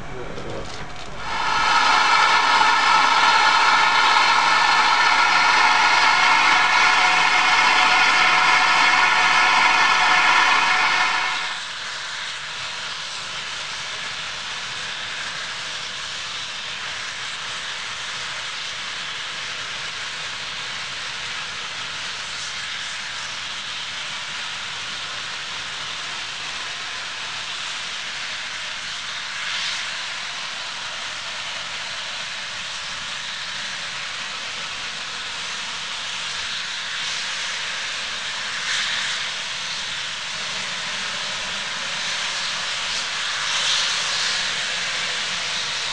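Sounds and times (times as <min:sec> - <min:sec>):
steam locomotive venting steam: 0:00.0 - 0:45.9.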